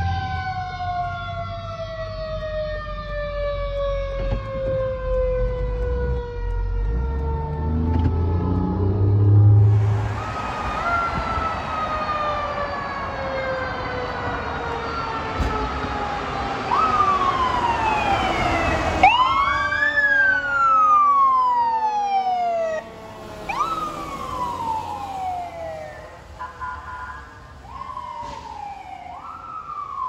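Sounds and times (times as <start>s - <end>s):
siren long wail: 0.0s - 30.0s
siren sweeps: 0.0s - 30.0s.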